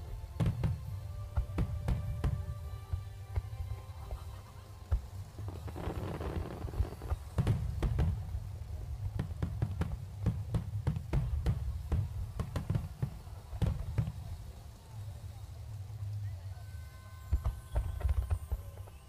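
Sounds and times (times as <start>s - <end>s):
fireworks bursting: 0.0s - 19.0s
fireworks crackle: 0.0s - 19.0s.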